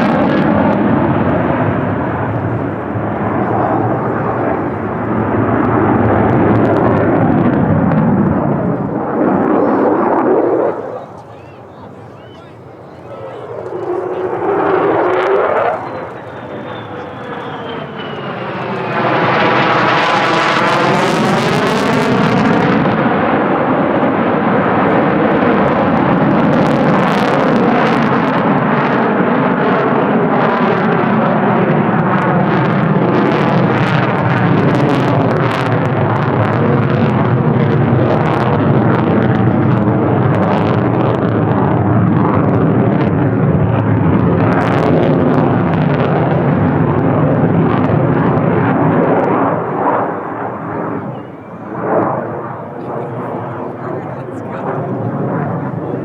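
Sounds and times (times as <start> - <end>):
jet passing with crackle: 0.0 - 56.0.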